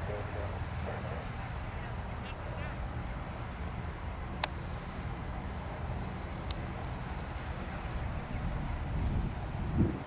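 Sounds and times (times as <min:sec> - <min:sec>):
light aircraft engine running: 0:00.0 - 0:10.0.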